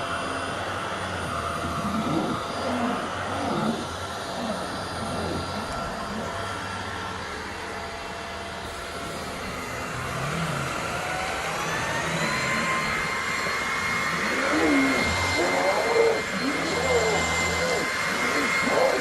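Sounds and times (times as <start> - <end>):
stick vacuum running: 0.0 - 19.0.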